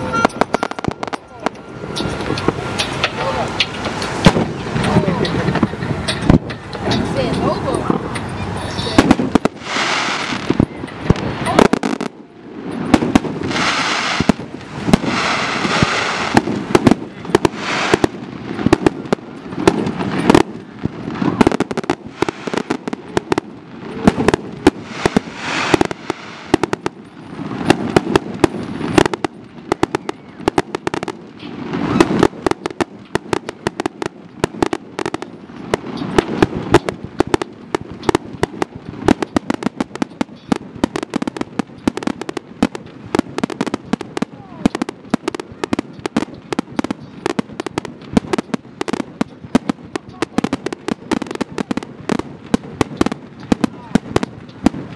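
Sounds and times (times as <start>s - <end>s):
firework shell bursts: 0.0s - 54.9s
fireworks crackling: 0.0s - 54.9s.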